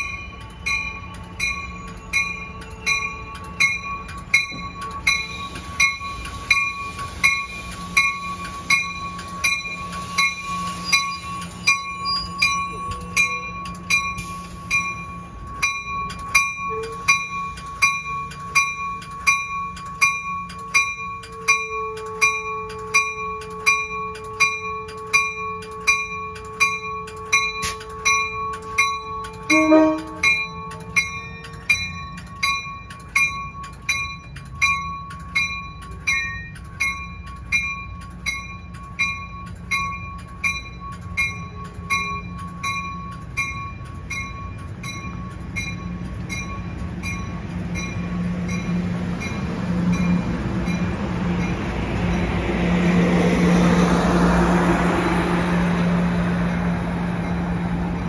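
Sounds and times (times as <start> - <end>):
railroad bell ringing: 0.0 - 58.0
train rumble: 0.0 - 58.0.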